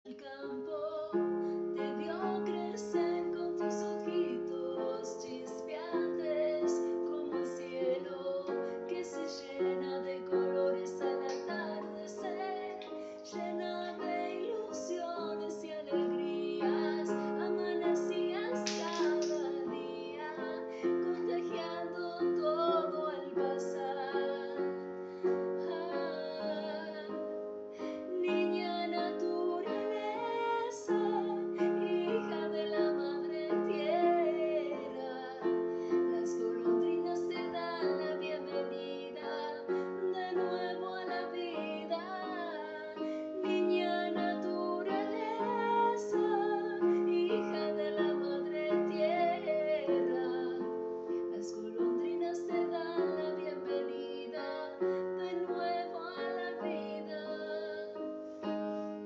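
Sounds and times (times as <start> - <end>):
woman singing slow melody: 0.1 - 58.9.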